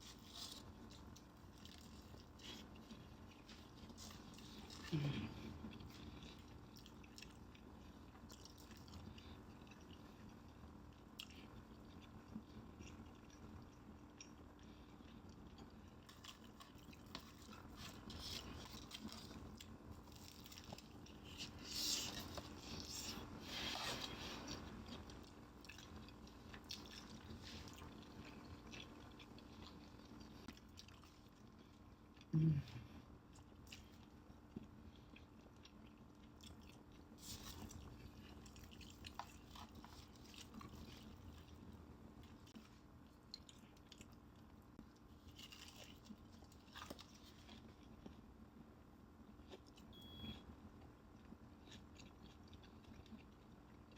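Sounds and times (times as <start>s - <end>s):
faint steady hum: 0.0s - 53.9s
person chewing crisp fried chicken: 0.0s - 53.9s.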